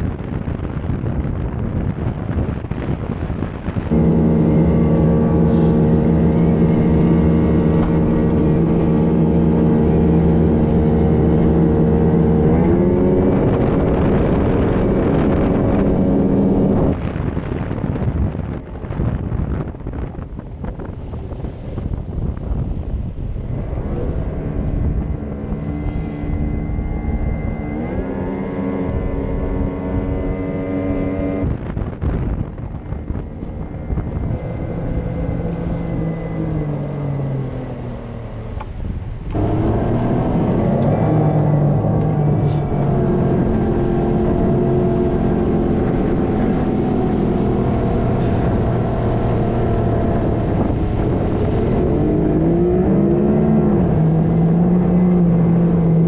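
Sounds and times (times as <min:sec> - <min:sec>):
wind and water rushing: 0:00.0 - 0:56.0
boat motor running: 0:03.4 - 0:18.3, 0:22.5 - 0:56.0.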